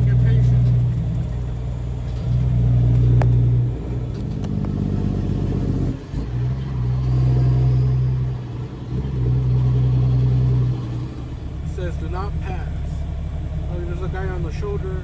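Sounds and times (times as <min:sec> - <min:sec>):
diesel truck engine: 0:00.0 - 0:15.0.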